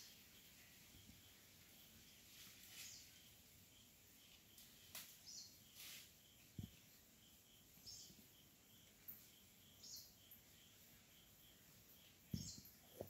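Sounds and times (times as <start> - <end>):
insect chirps: 0.0 - 13.0.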